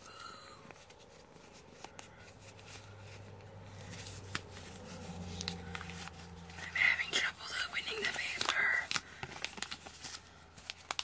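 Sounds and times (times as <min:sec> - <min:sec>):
low steady hum: 0:00.0 - 0:11.0
paper rustling and crinkling: 0:00.0 - 0:11.0.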